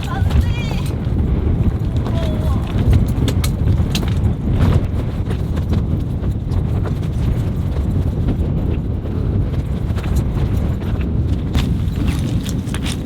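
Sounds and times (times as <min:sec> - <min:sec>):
wind gusting over microphone: 0:00.0 - 0:13.0.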